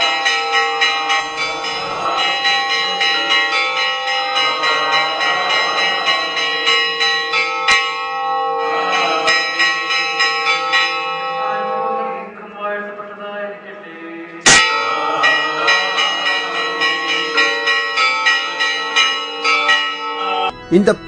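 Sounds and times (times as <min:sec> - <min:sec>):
church bell ringing rapidly: 0:00.0 - 0:12.5, 0:14.5 - 0:21.0.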